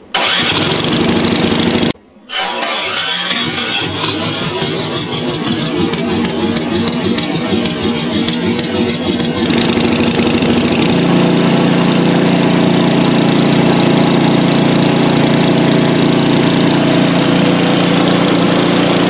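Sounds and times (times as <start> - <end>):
snowblower engine running: 0.2 - 19.0.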